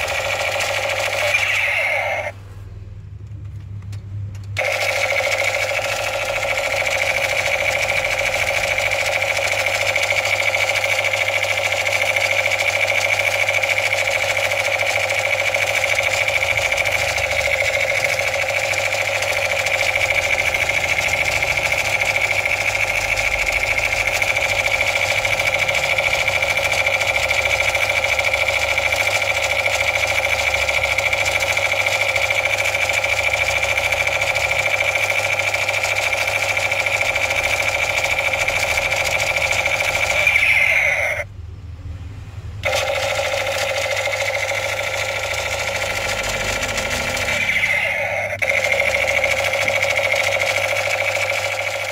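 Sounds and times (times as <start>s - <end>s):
toy gun electronic gunfire buzz: 0.0s - 2.4s, 4.6s - 41.3s, 42.6s - 51.9s.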